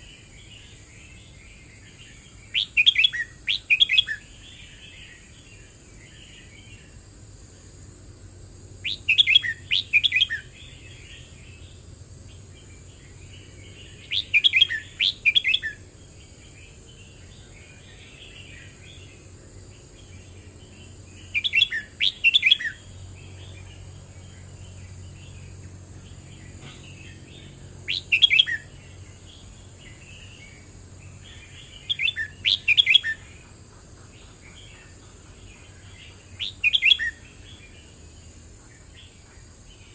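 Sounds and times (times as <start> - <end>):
soft bird chirping: 0.0 - 7.7, 8.8 - 39.9.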